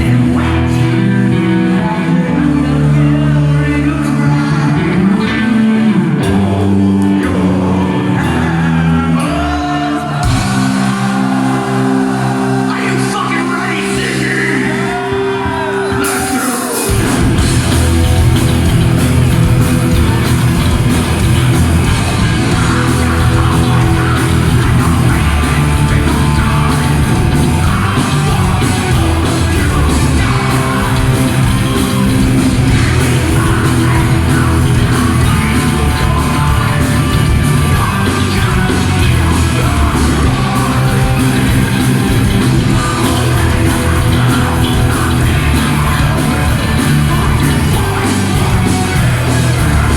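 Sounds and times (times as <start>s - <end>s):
heavy metal band playing: 0.0s - 49.9s
person singing and shouting: 0.0s - 49.9s.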